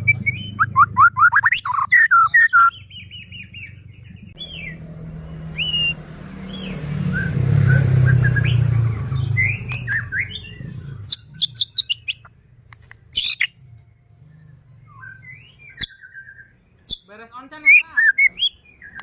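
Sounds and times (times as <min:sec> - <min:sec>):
bird whistling and calling: 0:00.0 - 0:03.8, 0:04.4 - 0:04.8, 0:05.5 - 0:19.0.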